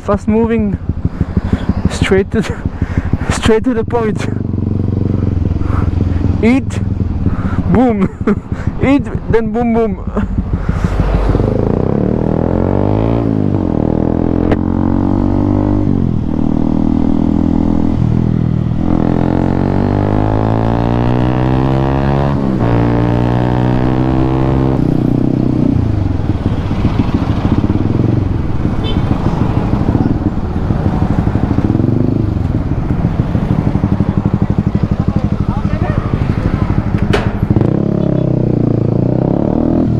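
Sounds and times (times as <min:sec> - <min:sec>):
motorcycle engine accelerating: 0:00.6 - 0:39.9.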